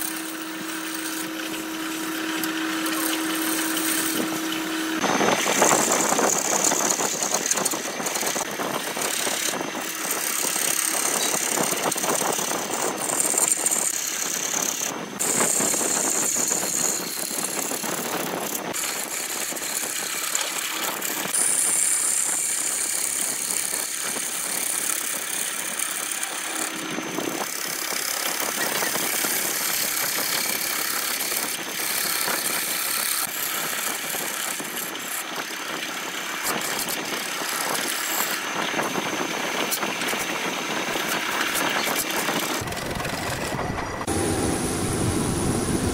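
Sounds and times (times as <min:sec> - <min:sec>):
chisel scraping spinning wood: 0:00.0 - 0:44.2
wood lathe running: 0:00.0 - 0:45.9.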